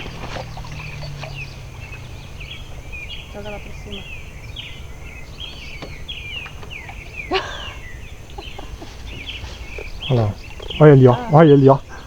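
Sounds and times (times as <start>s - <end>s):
songbirds chirping: 0.0s - 12.0s
steady low rumble: 0.0s - 12.0s.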